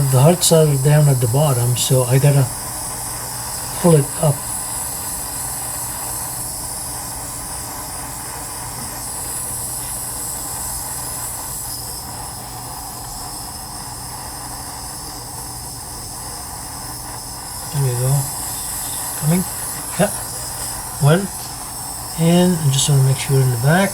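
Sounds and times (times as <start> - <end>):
soldering torch flame hissing: 0.0 - 23.9.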